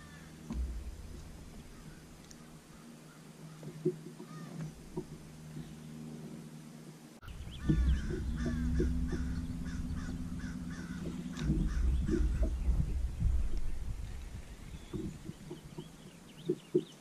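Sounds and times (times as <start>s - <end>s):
low rumble: 0.0s - 16.4s.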